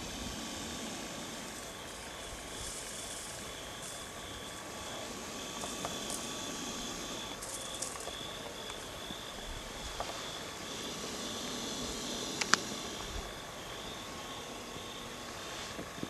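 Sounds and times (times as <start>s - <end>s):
background hiss: 0.0s - 16.0s
high insect trill: 0.0s - 16.0s.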